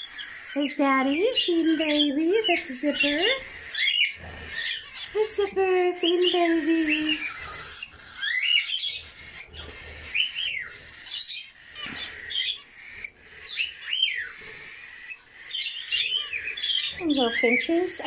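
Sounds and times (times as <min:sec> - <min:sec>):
birds whistled calls: 0:00.0 - 0:18.0
high-pitched chirping chatter: 0:00.0 - 0:18.0.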